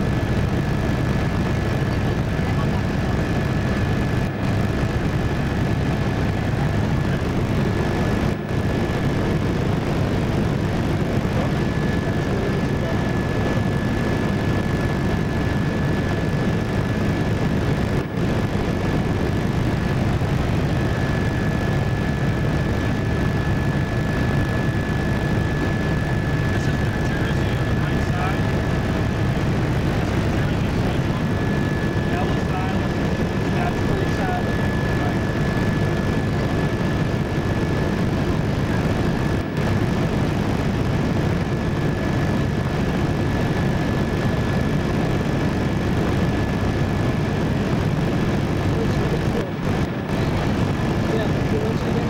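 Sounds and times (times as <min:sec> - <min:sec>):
helicopter engine and rotor noise: 0:00.0 - 0:52.0.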